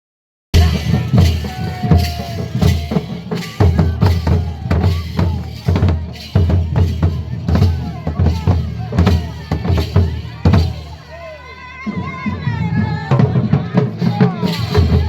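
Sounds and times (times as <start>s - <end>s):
folk drums beating: 0.6s - 15.0s.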